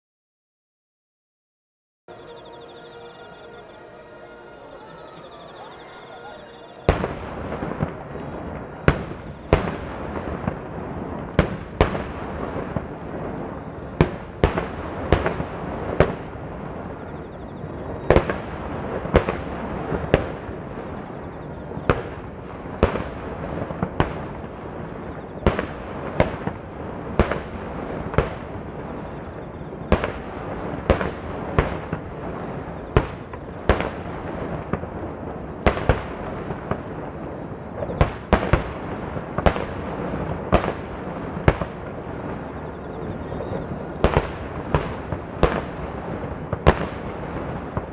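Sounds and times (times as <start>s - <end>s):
fireworks booming: 2.1s - 47.9s
fireworks crackling: 2.1s - 47.9s.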